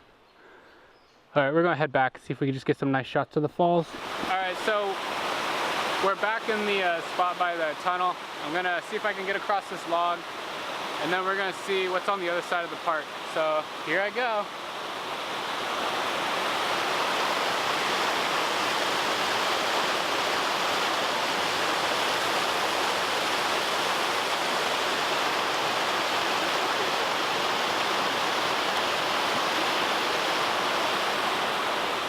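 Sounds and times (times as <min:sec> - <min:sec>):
creek water rushing: 0:03.8 - 0:32.0.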